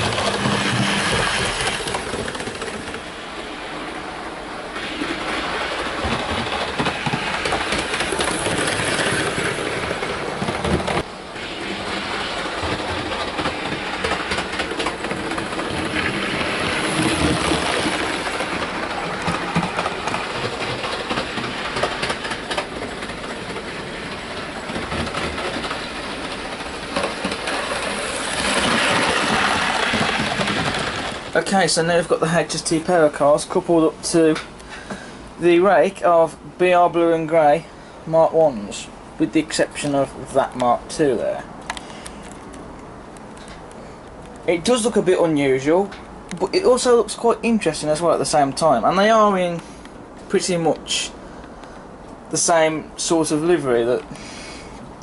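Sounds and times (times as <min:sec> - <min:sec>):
wheels clicking over rail joints: 0:00.0 - 0:37.6, 0:38.2 - 0:55.0.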